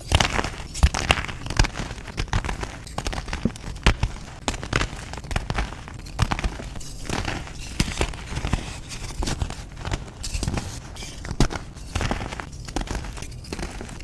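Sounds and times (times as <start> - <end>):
chalk crunching and crackling: 0.0 - 14.0.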